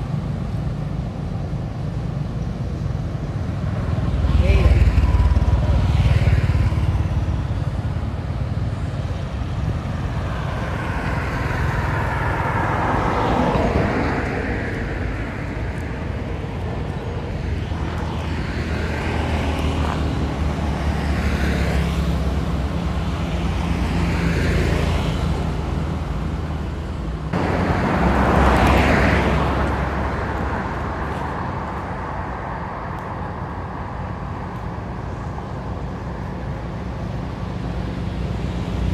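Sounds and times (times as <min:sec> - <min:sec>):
low traffic rumble: 0:00.0 - 0:38.9
vehicles passing: 0:00.0 - 0:38.9.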